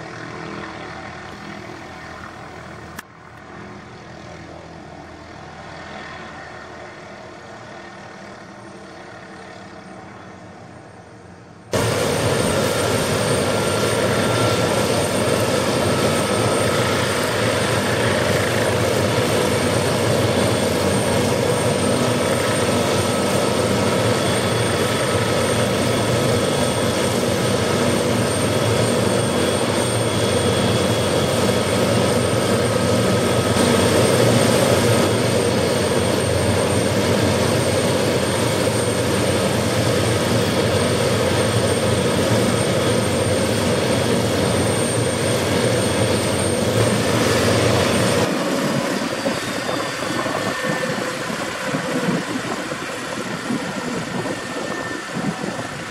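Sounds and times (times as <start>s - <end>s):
helicopter engine whine: 0.0s - 55.9s
helicopter rotors turning: 0.0s - 55.9s.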